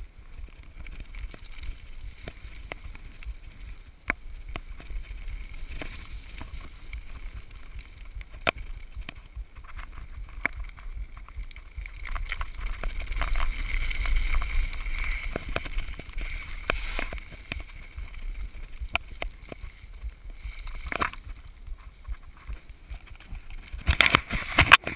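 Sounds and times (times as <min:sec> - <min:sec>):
bike rattling over bumps: 0:00.0 - 0:24.9
tyres rumbling over gravel: 0:00.0 - 0:24.9
wind rushing over microphone: 0:00.0 - 0:24.9.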